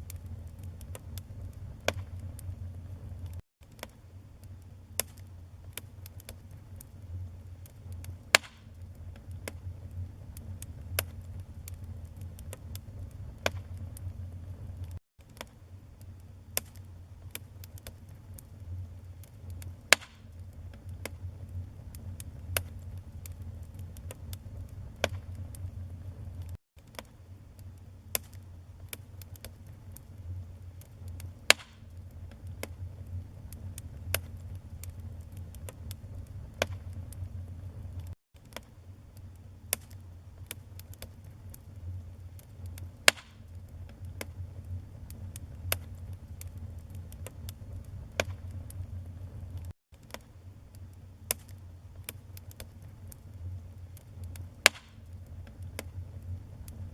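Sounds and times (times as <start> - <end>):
burning wood crackling and popping: 0.0 - 56.9
low rumble of flames: 0.0 - 56.9.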